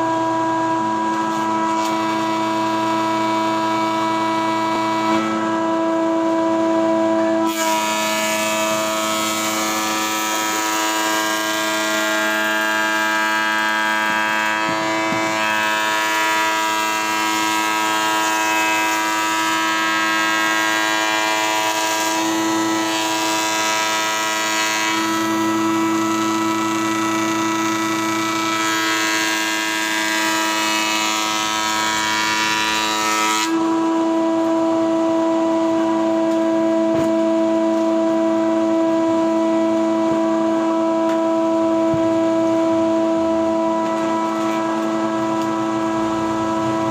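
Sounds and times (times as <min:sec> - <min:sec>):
board planing noise: 0:00.0 - 0:46.9
planer motor whine: 0:00.0 - 0:46.9.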